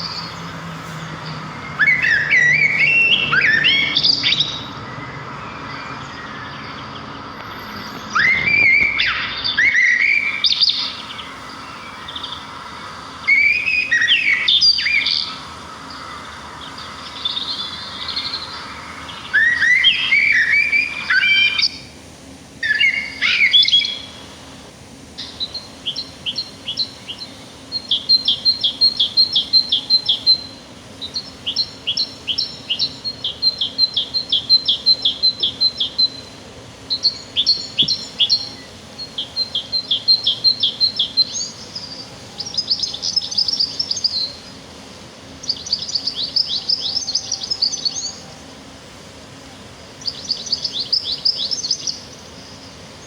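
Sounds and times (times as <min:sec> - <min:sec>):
songbird chirping: 0:00.0 - 0:24.6, 0:25.2 - 0:53.0.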